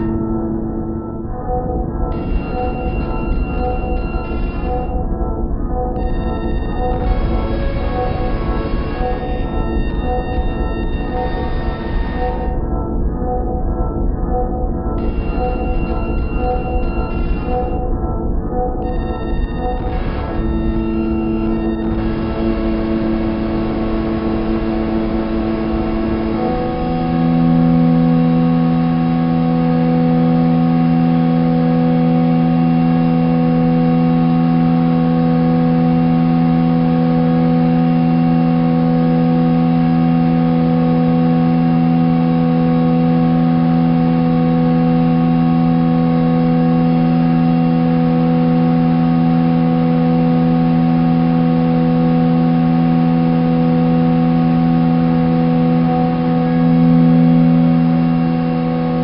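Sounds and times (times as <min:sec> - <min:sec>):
drone of held tones: 0:00.0 - 0:59.0.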